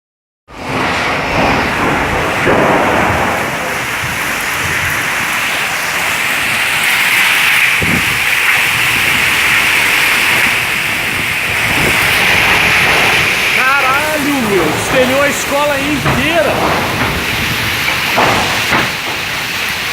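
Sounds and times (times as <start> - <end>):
heavy rain pouring: 0.5 - 19.9.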